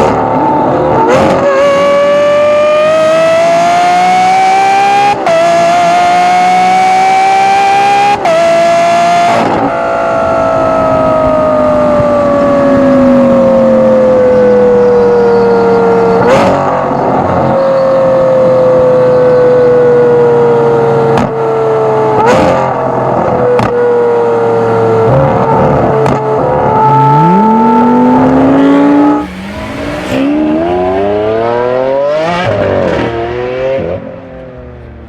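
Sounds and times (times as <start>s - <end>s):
car engine revving: 0.0s - 34.7s.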